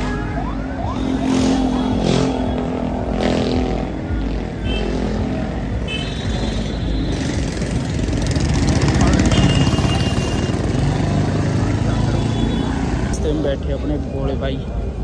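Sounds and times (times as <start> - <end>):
crowd on foot: 0.0 - 15.0
motorcycles passing: 0.0 - 15.0.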